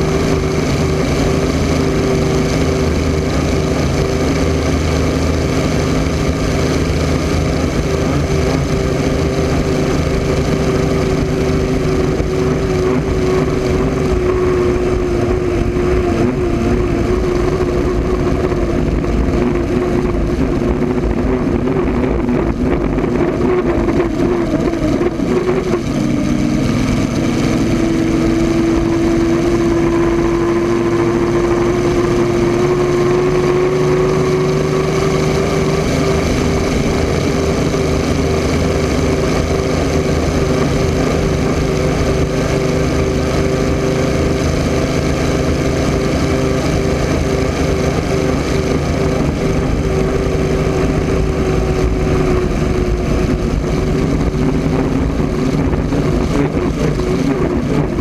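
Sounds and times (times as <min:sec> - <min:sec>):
aircraft engine running at speed: 0:00.0 - 0:58.0
rush of wind and water: 0:00.0 - 0:58.0.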